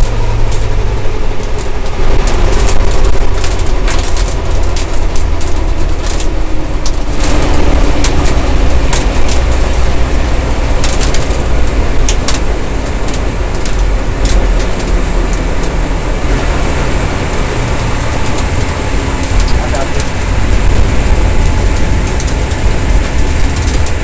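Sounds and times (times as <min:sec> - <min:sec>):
race car engine idling: 0:00.0 - 0:24.0
sharp clicks and crackles: 0:00.0 - 0:24.0.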